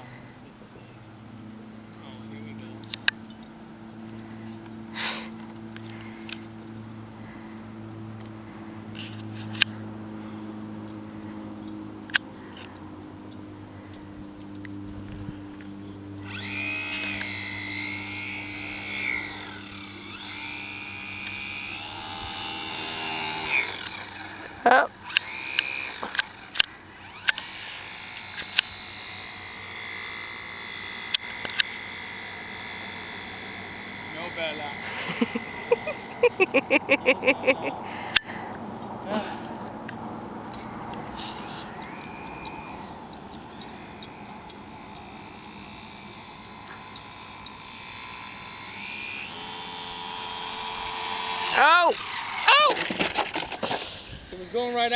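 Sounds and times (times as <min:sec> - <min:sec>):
model plane motor whine: 0:00.0 - 0:54.9.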